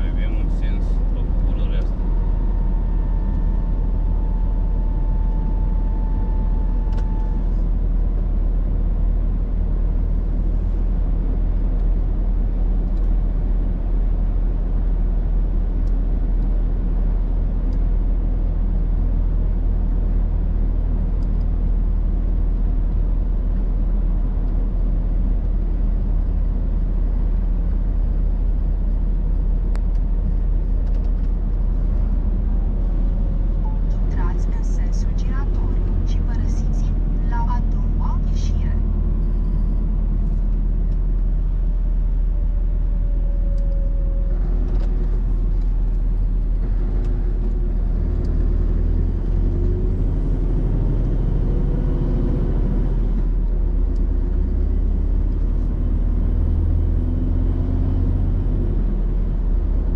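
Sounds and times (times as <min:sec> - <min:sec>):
road noise: 0:00.0 - 0:59.9
truck engine rumble: 0:00.0 - 0:59.9.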